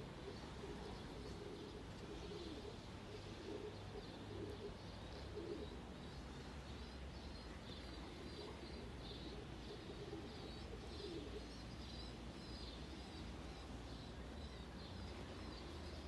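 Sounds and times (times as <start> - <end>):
pigeons cooing: 0.0 - 16.0
small birds chirping: 0.0 - 16.0.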